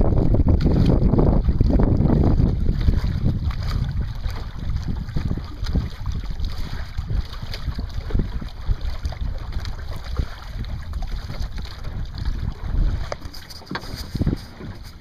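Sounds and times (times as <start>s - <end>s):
water splashing against hulls: 0.0s - 15.0s
wind buffeting microphone: 0.0s - 15.0s.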